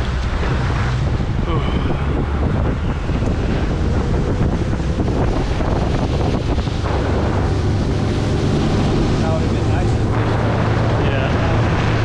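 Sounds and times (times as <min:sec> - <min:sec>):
outboard motor drone: 0:00.0 - 0:12.0
wind buffeting microphone: 0:00.0 - 0:12.0.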